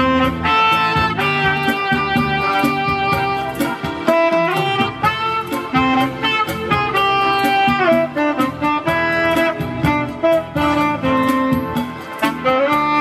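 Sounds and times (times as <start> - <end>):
keyboard backing accompaniment: 0.0 - 13.0
saxophone melody: 0.0 - 13.0.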